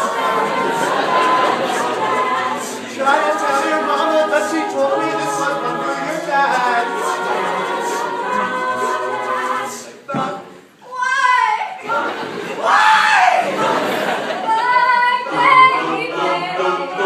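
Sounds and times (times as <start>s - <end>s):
a cappella group singing in harmony: 0.0s - 10.9s, 11.7s - 17.0s.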